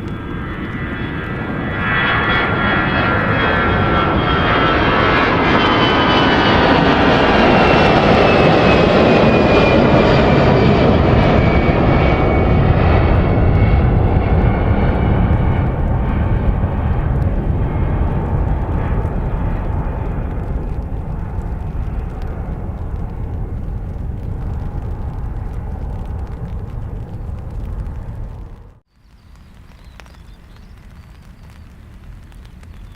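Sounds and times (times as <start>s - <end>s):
airliner engines roaring: 0.0s - 32.9s.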